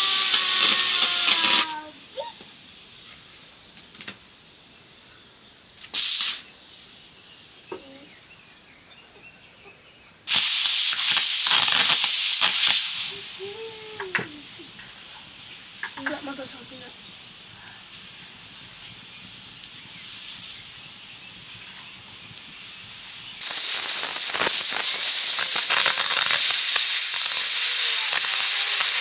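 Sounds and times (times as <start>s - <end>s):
bursts of hissing noise: 0.0s - 8.3s, 10.1s - 29.0s.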